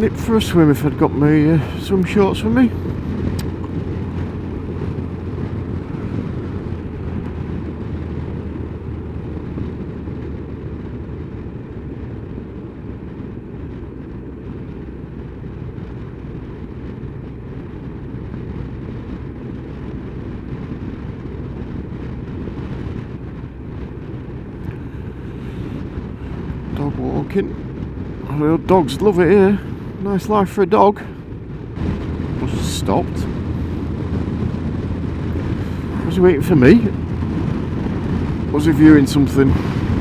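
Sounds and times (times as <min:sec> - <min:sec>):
motorcycle engine hum: 0:00.0 - 0:40.0
wind and road noise: 0:00.0 - 0:40.0.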